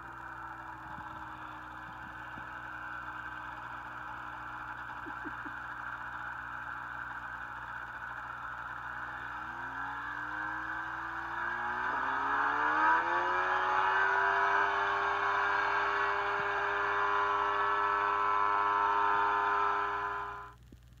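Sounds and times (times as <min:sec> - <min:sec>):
light aircraft engine and propeller: 0:00.0 - 0:20.6.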